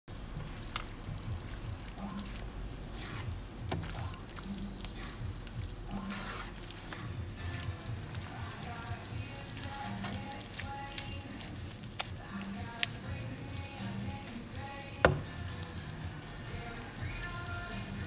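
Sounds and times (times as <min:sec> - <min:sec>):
quiet background music: 0:00.1 - 0:18.0
spatula stirring vegetables in wok: 0:00.1 - 0:18.0.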